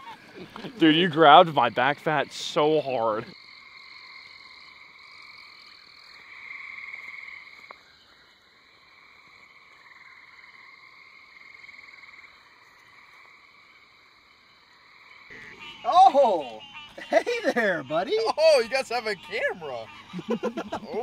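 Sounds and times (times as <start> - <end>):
frogs trilling chorus: 0.0 - 21.0.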